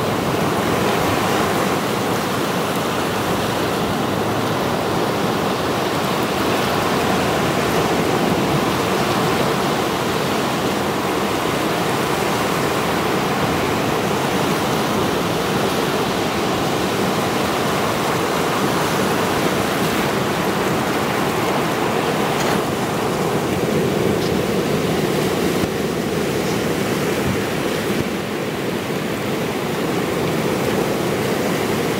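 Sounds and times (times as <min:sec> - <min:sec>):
waves breaking over rocks: 0:00.0 - 0:31.9.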